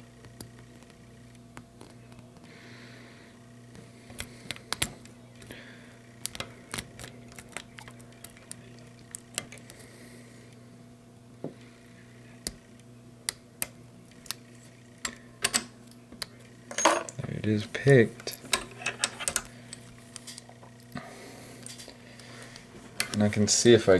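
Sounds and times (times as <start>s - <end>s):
faint steady hum: 0.0s - 23.9s.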